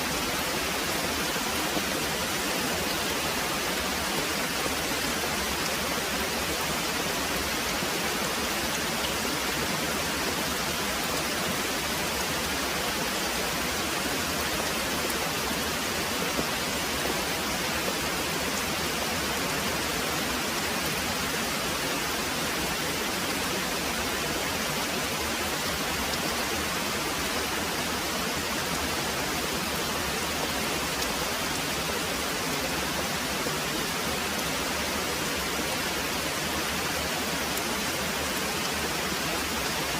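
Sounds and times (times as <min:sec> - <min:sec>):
very heavy rain pouring: 0:00.0 - 0:39.9.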